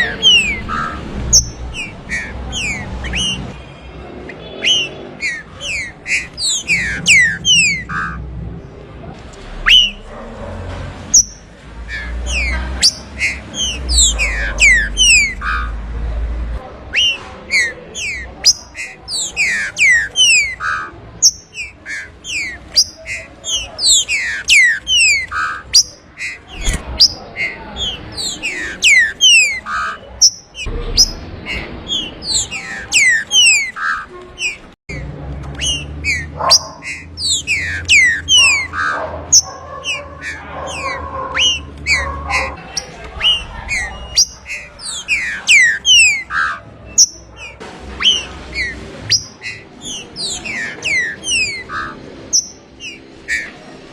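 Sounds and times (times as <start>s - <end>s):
bird whistling song: 0.0s - 3.6s, 4.2s - 8.2s, 9.6s - 10.0s, 11.1s - 15.8s, 16.9s - 35.0s, 35.6s - 53.7s.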